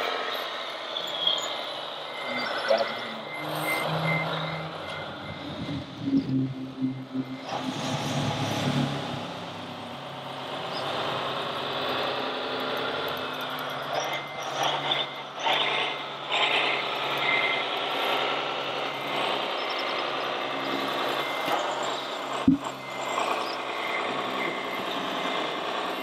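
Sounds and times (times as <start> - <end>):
electric motor and gears whirring: 0.0 - 26.0
low engine-like hum: 0.0 - 26.0.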